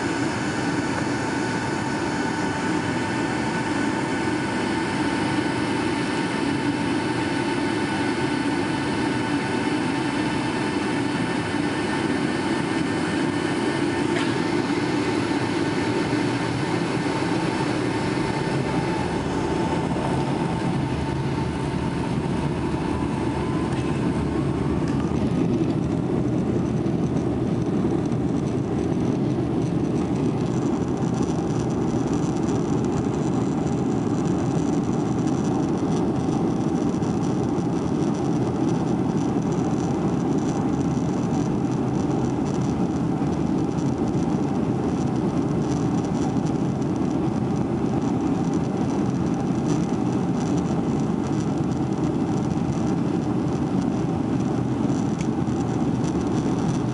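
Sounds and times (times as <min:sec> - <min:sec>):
airliner cabin rumble and hiss: 0:00.0 - 0:56.9.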